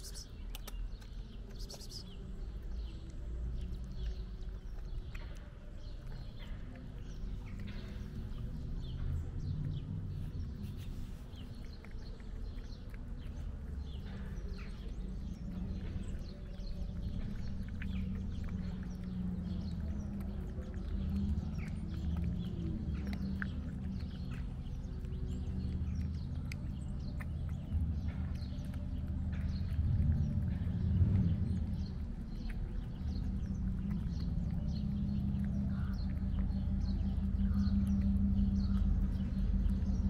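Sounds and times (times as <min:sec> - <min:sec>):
cat chewing and lapping food: 0:00.0 - 0:40.0
steady low rumble: 0:00.0 - 0:40.0.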